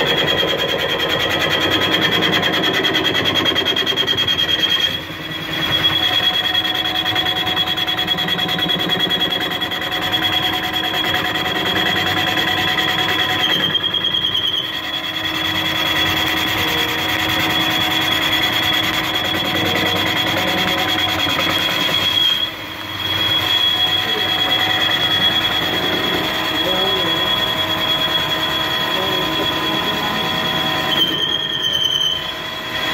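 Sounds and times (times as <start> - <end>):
high-pitched cutting squeal: 0.0 - 32.9
lathe machine running: 0.0 - 32.9.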